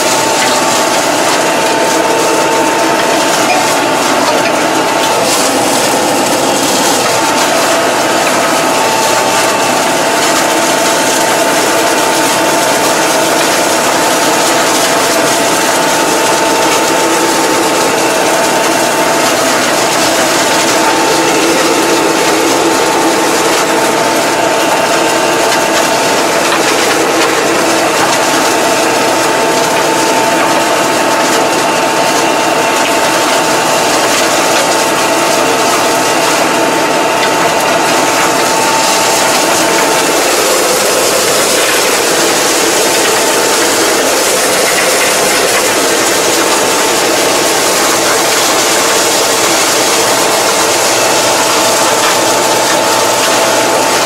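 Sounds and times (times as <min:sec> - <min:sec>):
high mechanical whine: 0:00.0 - 0:54.0
mower clatter: 0:00.0 - 0:54.0
tractor engine under load: 0:00.0 - 0:54.0.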